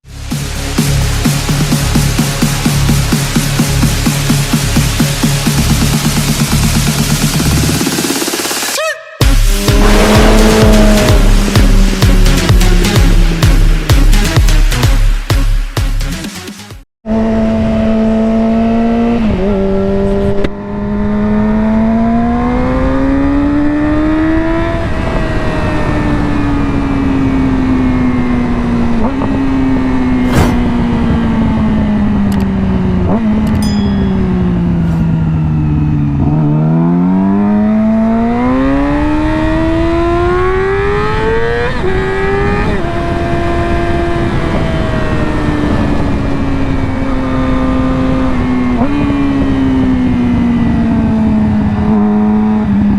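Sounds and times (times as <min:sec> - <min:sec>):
motorcycle engine accelerating: 0:00.0 - 0:15.0, 0:17.0 - 0:52.9.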